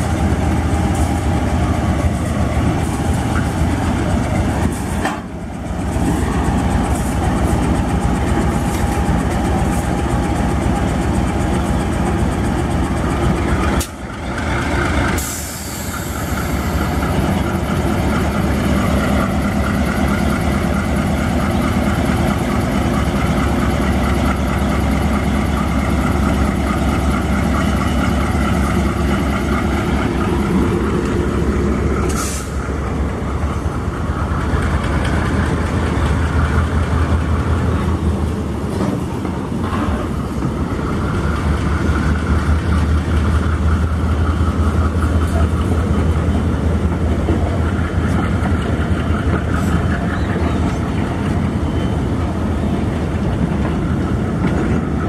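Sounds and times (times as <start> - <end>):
locomotive diesel engine running: 0.0 - 55.0.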